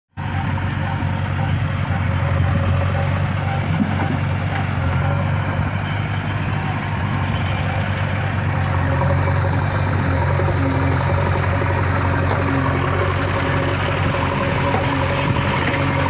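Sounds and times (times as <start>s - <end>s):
diesel engines running at low revs: 0.1s - 16.0s.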